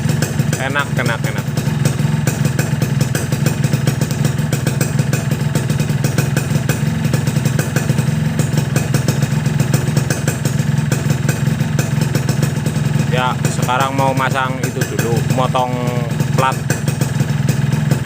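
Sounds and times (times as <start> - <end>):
two-stroke motorcycle engine idling: 0.0 - 18.0.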